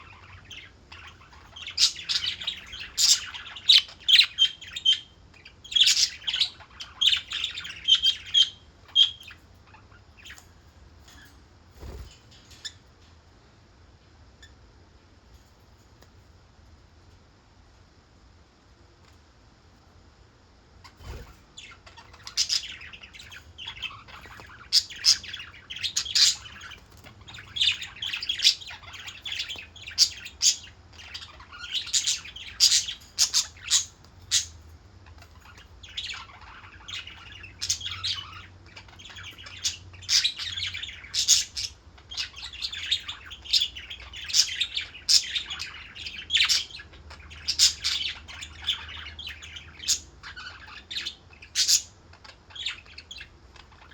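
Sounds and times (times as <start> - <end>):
parakeets chirping and squawking: 0.0 - 13.0, 20.8 - 53.9.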